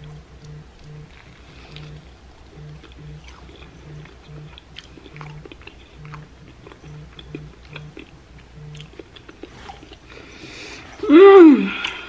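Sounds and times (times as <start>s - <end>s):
wet chewing clicks and smacks: 0.0s - 10.2s
faint low hums: 0.0s - 12.0s.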